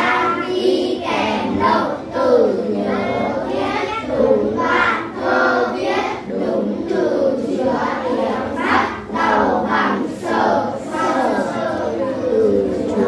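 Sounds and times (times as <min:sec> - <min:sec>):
children reading aloud in unison: 0:00.0 - 0:13.0.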